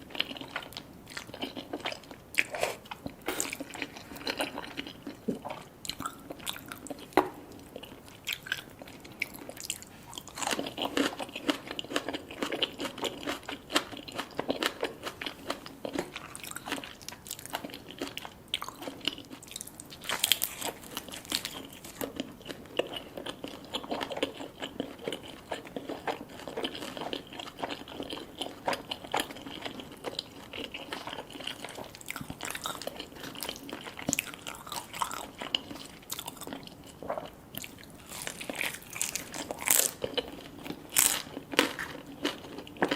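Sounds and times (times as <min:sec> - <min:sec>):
chewing and crunching food: 0:00.0 - 0:42.9.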